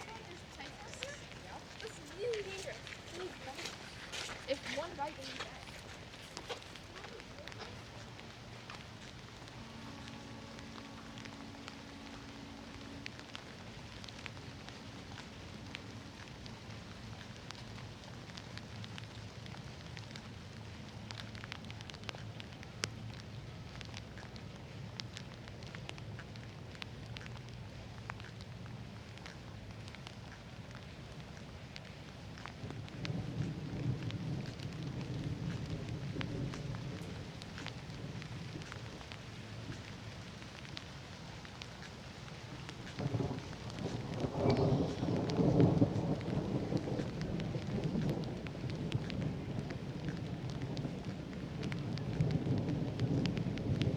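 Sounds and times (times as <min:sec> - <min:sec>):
thunder rumbling: 0:00.0 - 0:04.1, 0:04.8 - 0:24.2, 0:28.6 - 0:53.9
heavy rain with drop ticks: 0:00.0 - 0:53.9.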